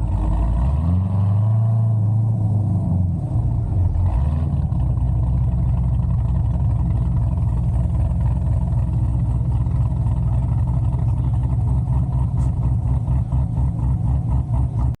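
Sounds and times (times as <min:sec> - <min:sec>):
car engine exhaust rumble: 0:00.0 - 0:15.0.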